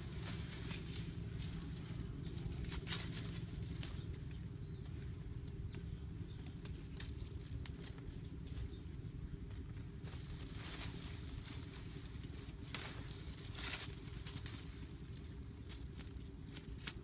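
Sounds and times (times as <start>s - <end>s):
leaves and twigs rustling: 0.0s - 17.0s
low rumble: 0.0s - 17.0s.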